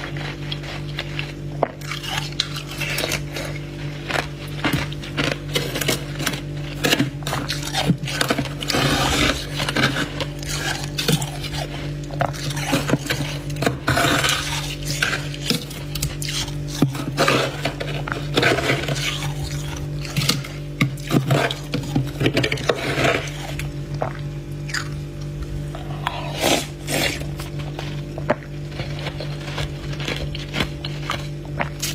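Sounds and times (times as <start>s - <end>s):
ice crunching and scraping: 0.0s - 24.9s, 25.6s - 31.9s
low hum: 0.0s - 31.9s.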